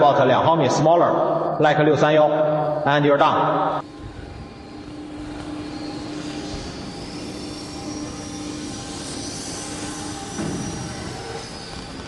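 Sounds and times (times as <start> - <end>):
faint high whine: 0.0 - 12.0
machine hum: 0.0 - 12.0.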